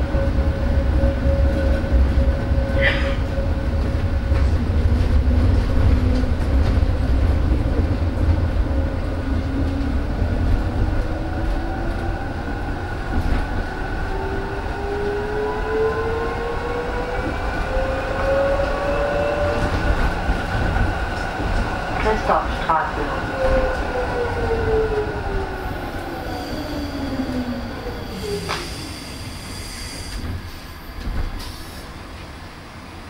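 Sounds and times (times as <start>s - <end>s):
wheels rumbling on rail: 0.0s - 33.0s.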